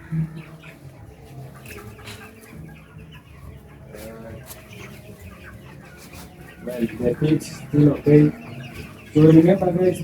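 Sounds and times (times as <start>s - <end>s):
chickens clucking and cheeping: 0.0s - 10.0s.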